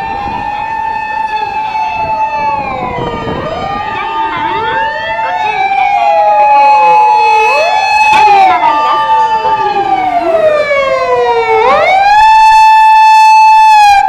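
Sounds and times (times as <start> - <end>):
emergency vehicle sirens wailing: 0.0 - 14.0.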